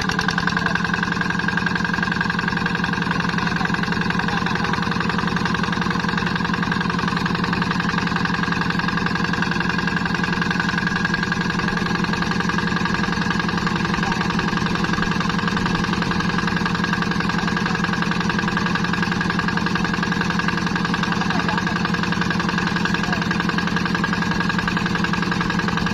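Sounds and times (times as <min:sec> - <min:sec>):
engine running steadily: 0:00.0 - 0:25.9.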